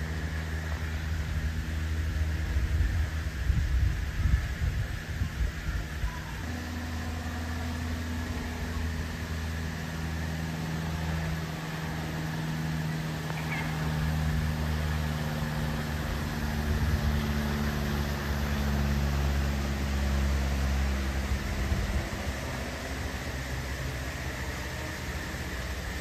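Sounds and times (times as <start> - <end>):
propeller plane flying overhead: 0.0 - 26.0.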